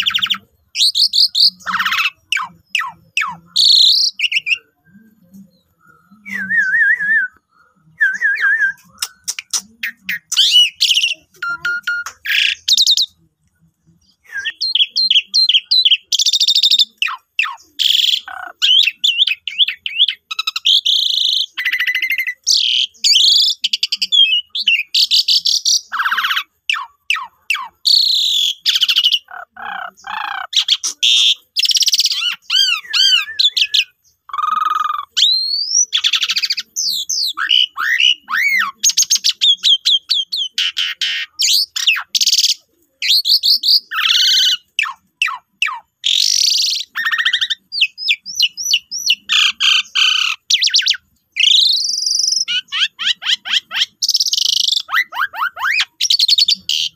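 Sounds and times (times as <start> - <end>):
starling singing: 0.0 - 56.9.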